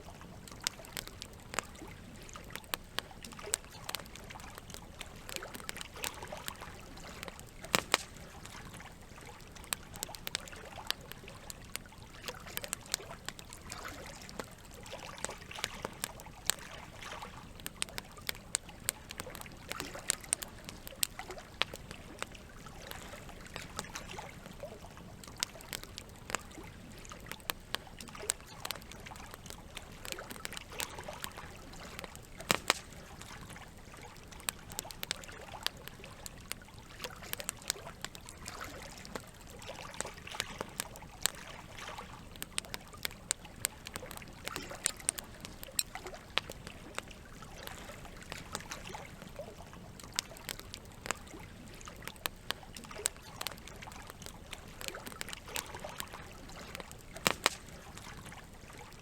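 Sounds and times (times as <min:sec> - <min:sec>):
campfire crackling and popping: 0:00.0 - 0:59.0
trickling water: 0:00.0 - 0:59.0.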